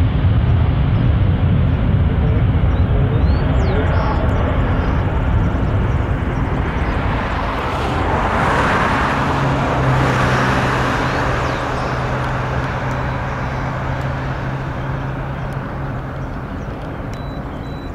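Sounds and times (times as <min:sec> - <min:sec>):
jet engine roar: 0:00.0 - 0:17.9
low hum: 0:00.0 - 0:17.9.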